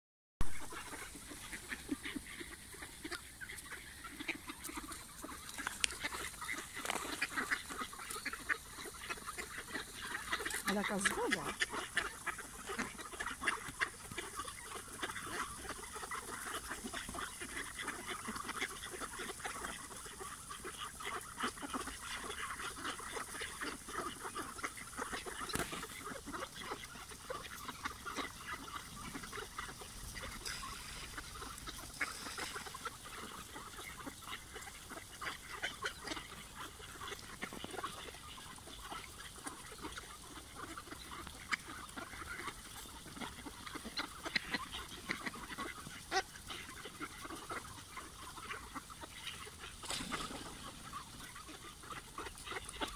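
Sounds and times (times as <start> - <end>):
ducks quacking softly: 0.4 - 52.9.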